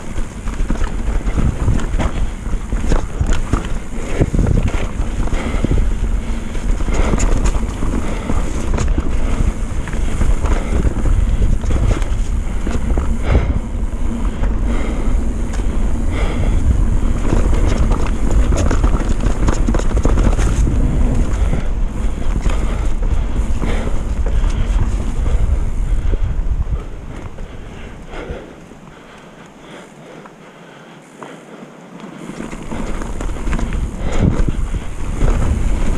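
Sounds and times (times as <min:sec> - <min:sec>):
bike rattling and knocking: 0:00.0 - 0:29.8, 0:32.1 - 0:35.9
tyre rumble: 0:00.0 - 0:29.8, 0:32.1 - 0:35.9
wind buffeting microphone: 0:00.0 - 0:30.7, 0:32.1 - 0:35.9.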